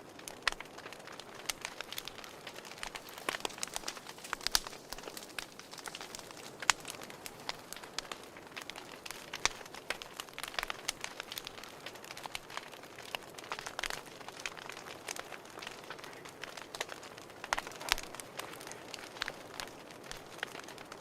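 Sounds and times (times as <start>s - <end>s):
soft fire hiss: 0.0s - 21.0s
wood fire crackling and popping: 0.0s - 21.0s.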